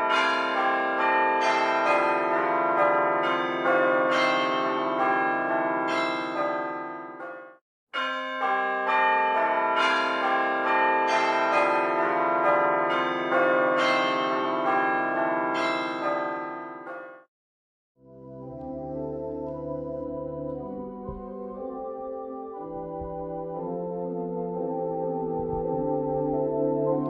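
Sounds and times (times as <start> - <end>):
church bells ringing: 0.0 - 17.3, 18.1 - 27.0.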